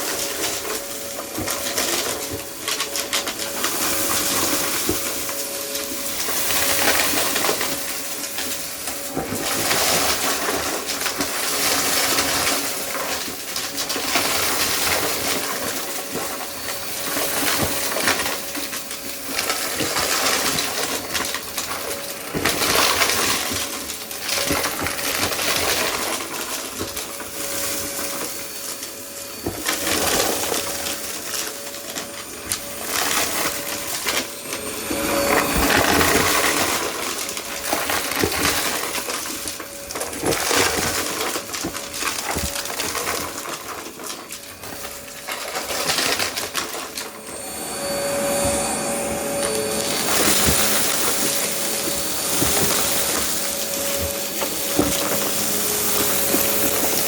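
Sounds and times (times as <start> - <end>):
debris rattling through vacuum: 0.0 - 57.0
vacuum cleaner running: 0.0 - 57.0.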